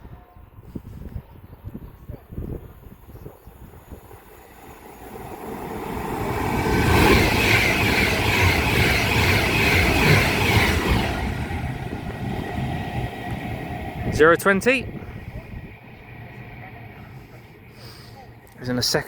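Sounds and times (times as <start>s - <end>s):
electric train passing: 2.4s - 19.0s.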